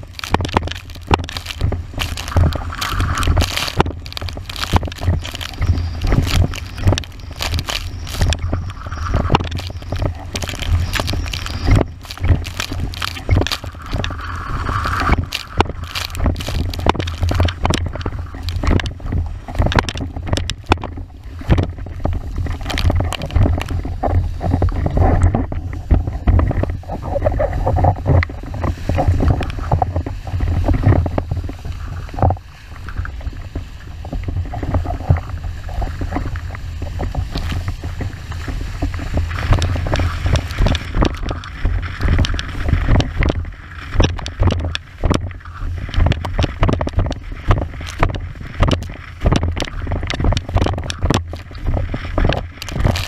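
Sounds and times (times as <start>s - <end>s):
board slapping waves: 0.0s - 53.0s
water rushing under board: 0.0s - 53.0s
wind buffeting microphone: 0.0s - 53.0s.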